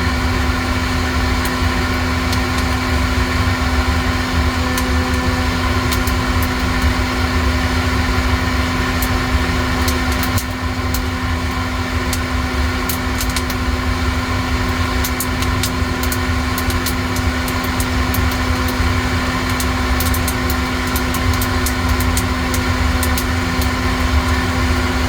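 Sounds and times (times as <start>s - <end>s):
coffee roaster motor humming: 0.0s - 25.0s.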